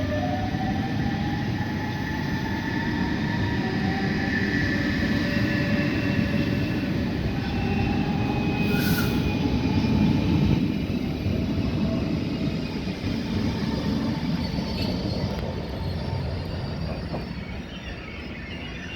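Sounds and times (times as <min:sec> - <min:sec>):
train wheels squealing: 0:00.0 - 0:18.9
train running gear rumble: 0:00.6 - 0:18.9.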